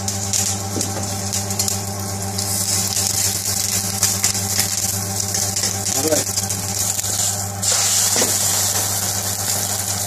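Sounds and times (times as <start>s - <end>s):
omelette sizzling in a skillet: 0.0s - 10.0s.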